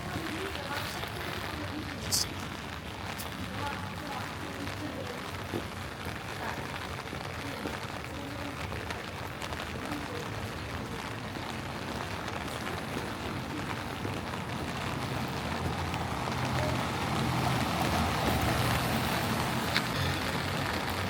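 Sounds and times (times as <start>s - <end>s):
rain on street: 0.0s - 21.0s.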